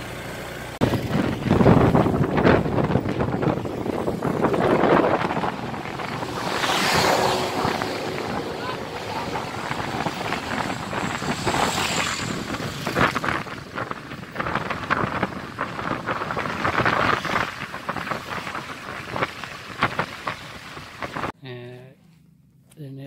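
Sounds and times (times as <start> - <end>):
car road and engine noise: 0.0 - 21.4, 22.0 - 22.9
wind buffeting microphone: 0.8 - 21.4.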